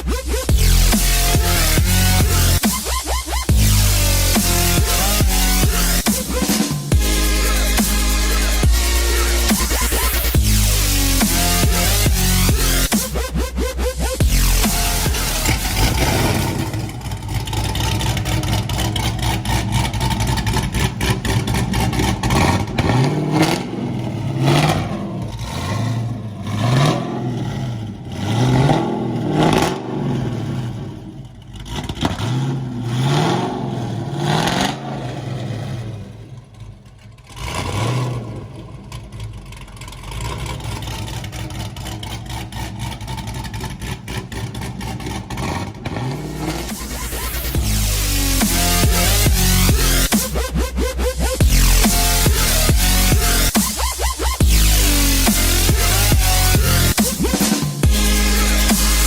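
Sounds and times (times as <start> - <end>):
truck engine idling and revving: 0.0 - 59.0.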